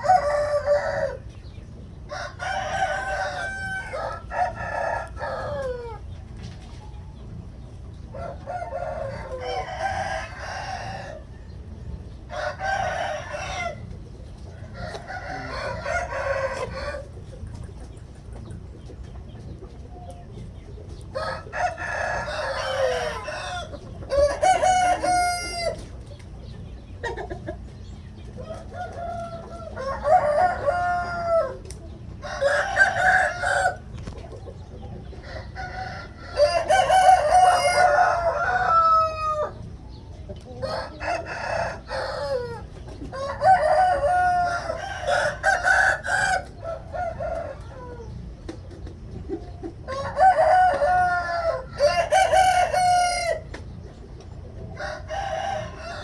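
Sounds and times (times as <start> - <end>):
roosters crowing: 0.0 - 56.0.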